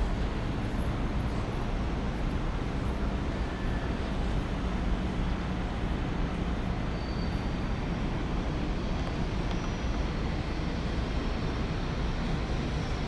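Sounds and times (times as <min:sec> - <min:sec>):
train rolling low rumble: 0:00.0 - 0:13.0.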